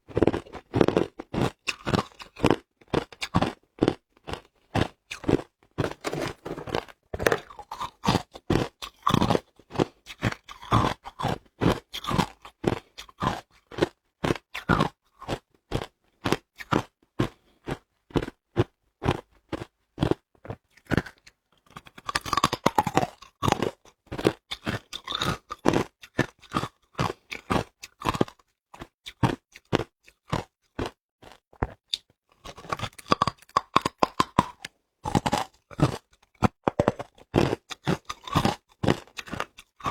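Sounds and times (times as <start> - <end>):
ice being chewed: 0.1 - 39.9.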